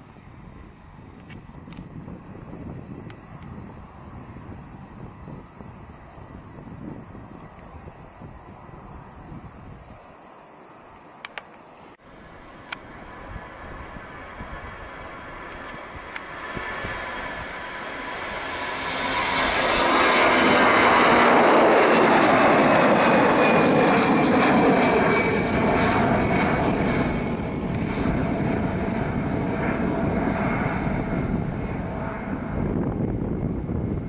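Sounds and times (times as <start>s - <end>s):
jet engines roaring on takeoff: 0.0s - 34.0s.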